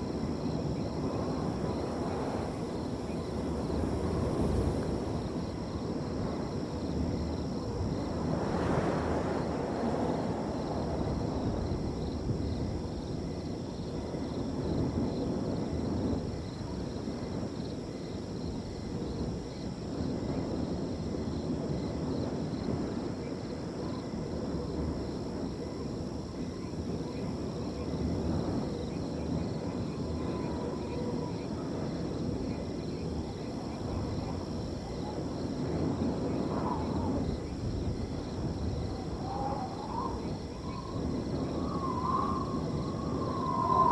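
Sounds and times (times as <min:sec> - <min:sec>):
crickets trilling: 0:00.0 - 0:43.9
wind blowing in gusts: 0:00.0 - 0:43.9.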